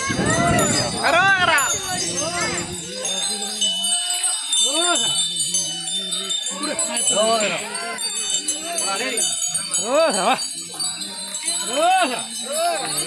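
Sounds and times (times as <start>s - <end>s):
small bells jingling: 0.0s - 13.0s.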